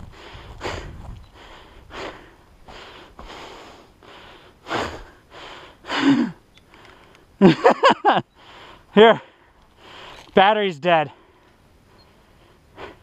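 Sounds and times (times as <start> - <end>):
person breathing hard: 0.0 - 7.3, 8.4 - 10.3, 11.1 - 13.0.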